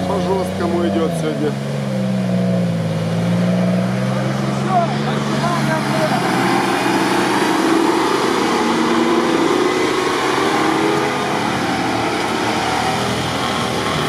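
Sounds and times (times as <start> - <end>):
truck engine driving through mud: 0.0 - 14.0.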